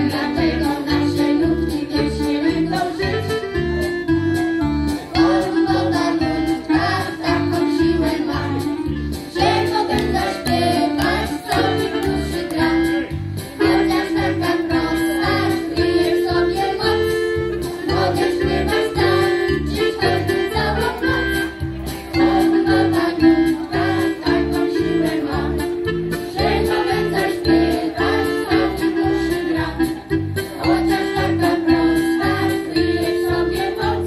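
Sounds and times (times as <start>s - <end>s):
women singing together: 0.0s - 3.2s, 5.2s - 13.0s, 13.6s - 21.3s, 22.2s - 30.0s, 30.6s - 34.0s
keyboard accompaniment: 0.0s - 34.0s.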